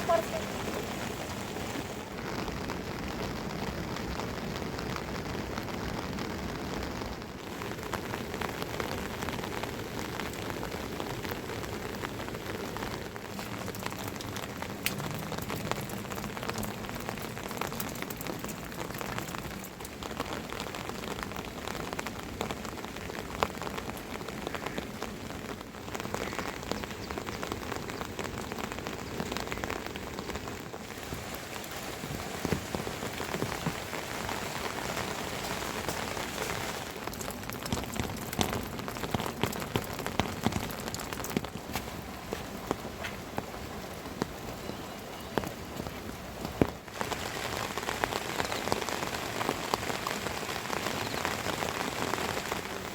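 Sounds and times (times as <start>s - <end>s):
rain pattering on surfaces: 0.0s - 52.9s.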